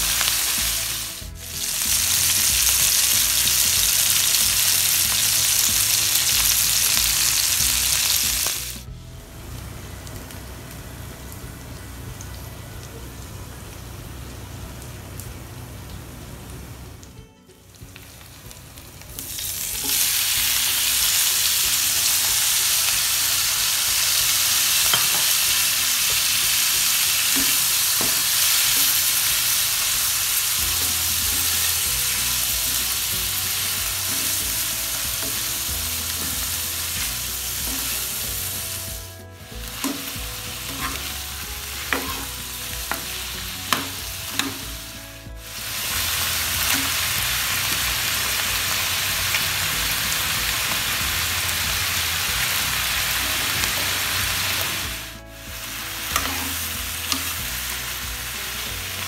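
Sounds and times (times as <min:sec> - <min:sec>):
vegetables sizzling in a wok: 0:00.0 - 0:17.0, 0:17.6 - 0:59.0.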